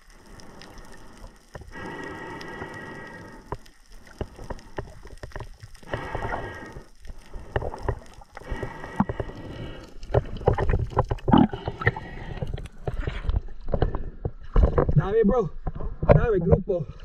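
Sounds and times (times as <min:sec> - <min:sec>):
underwater knocks and clicks: 0:03.4 - 0:17.0.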